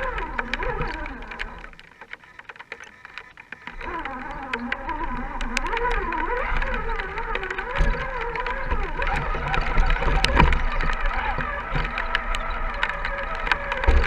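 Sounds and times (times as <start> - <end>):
sharp clicks and knocks: 0.0 - 14.0
small electric motor whining: 0.0 - 14.0.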